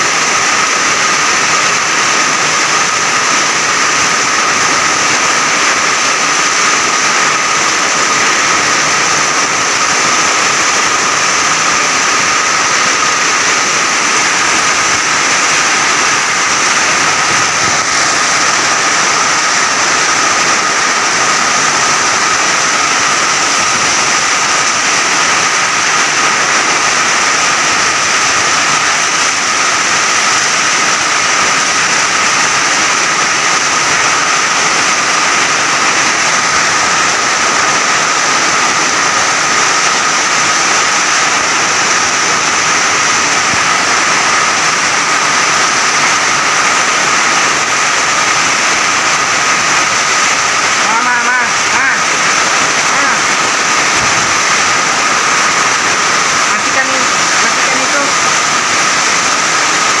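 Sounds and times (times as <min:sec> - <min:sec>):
heavy rain pouring: 0:00.0 - 1:00.0.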